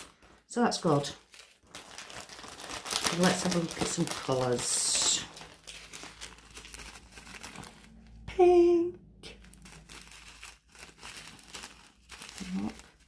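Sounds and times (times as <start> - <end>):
plastic bags crinkling: 0.0 - 8.2, 9.2 - 13.0.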